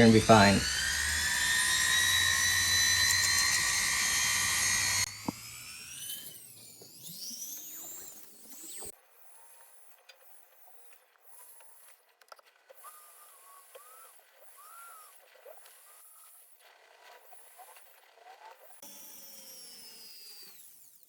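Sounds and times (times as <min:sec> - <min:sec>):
high-speed rotary tool on metal: 0:00.0 - 0:10.8, 0:12.8 - 0:21.0.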